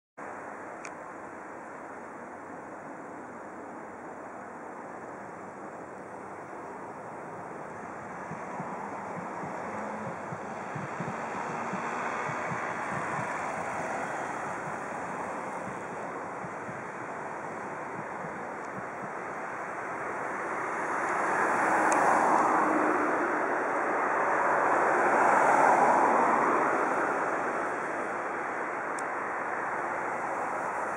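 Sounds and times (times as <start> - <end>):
tram passing: 0.2 - 30.9.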